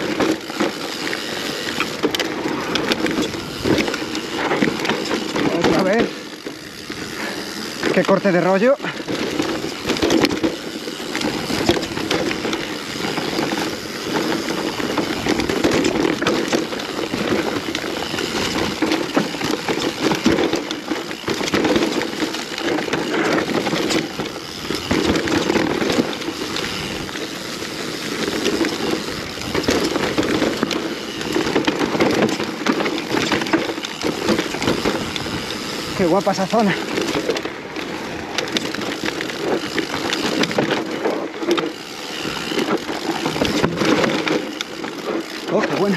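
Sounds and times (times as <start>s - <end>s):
bike tyre noise on trail: 0.0s - 45.9s
chain and frame rattling: 0.0s - 45.9s
wheels knocking on rocks: 0.0s - 45.9s.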